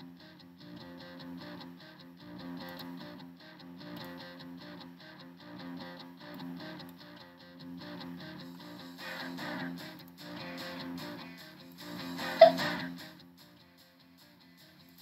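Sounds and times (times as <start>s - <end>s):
background music with strummed guitar: 0.0s - 15.0s.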